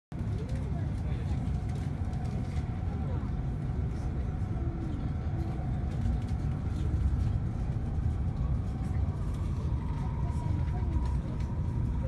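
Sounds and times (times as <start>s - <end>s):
train rumbling inside cabin: 0.1s - 12.0s.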